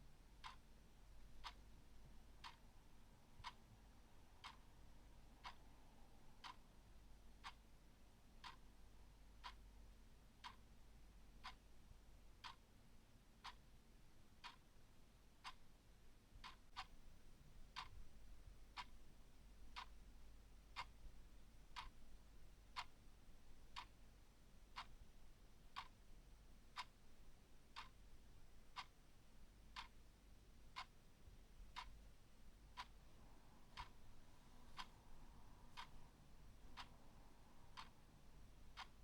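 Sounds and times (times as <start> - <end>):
clock ticking: 0.4 - 3.7, 4.4 - 6.8, 7.4 - 10.8, 11.4 - 11.7, 12.4 - 12.7, 13.4 - 13.7, 14.4 - 14.8, 15.4 - 15.7, 16.4 - 39.0.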